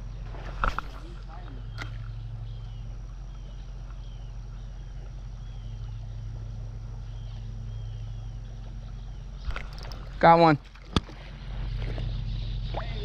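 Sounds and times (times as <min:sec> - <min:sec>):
low rumble: 0:00.0 - 0:13.0
faint bird chirps: 0:00.9 - 0:10.2, 0:11.2 - 0:13.0.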